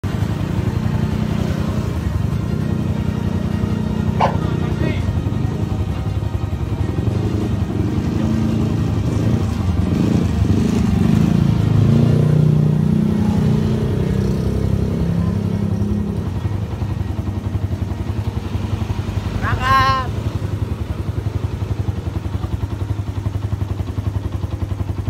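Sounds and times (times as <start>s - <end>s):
motor scooter engines running: 0.0s - 25.0s.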